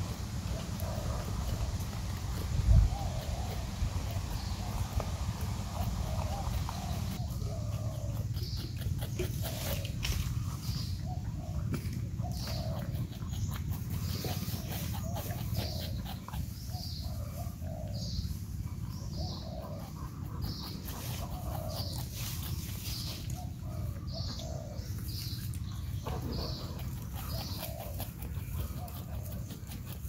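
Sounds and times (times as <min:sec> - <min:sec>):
porcupine crunching fruit: 0:00.0 - 0:30.0.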